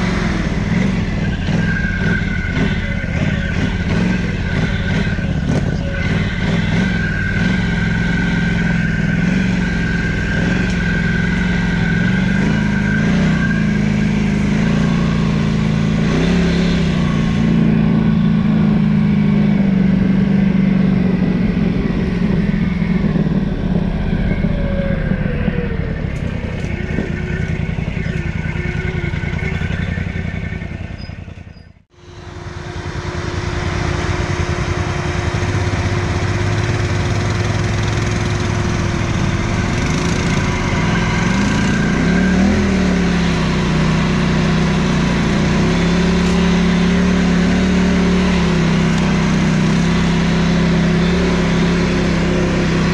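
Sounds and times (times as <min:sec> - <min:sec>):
quad engine revving: 0:00.0 - 0:31.5, 0:32.3 - 0:52.9.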